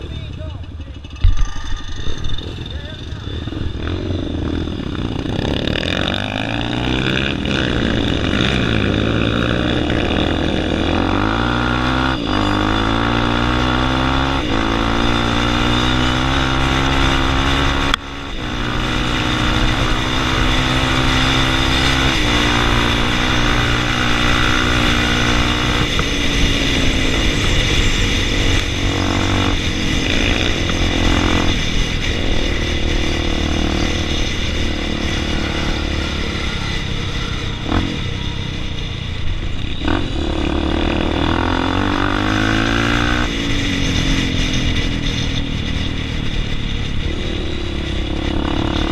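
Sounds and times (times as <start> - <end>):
dirt bike engines at full throttle: 0.0 - 48.9.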